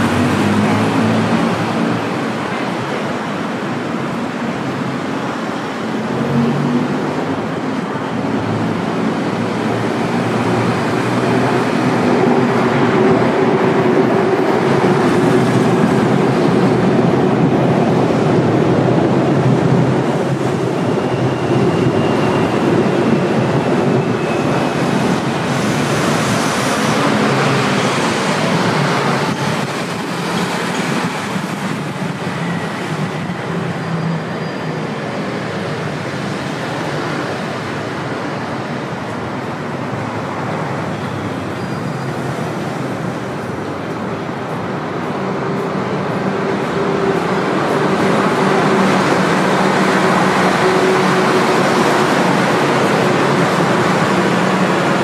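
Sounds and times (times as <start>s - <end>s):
elevated train rumbling: 0.0s - 55.0s
road traffic: 0.0s - 55.0s
train whine: 0.0s - 55.0s.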